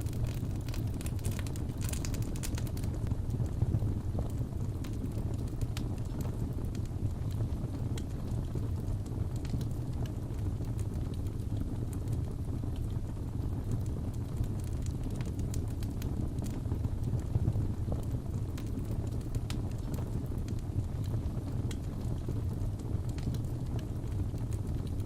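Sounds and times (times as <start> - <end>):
fire burning rumble: 0.0 - 25.0
fire pops and crackles: 0.0 - 25.0.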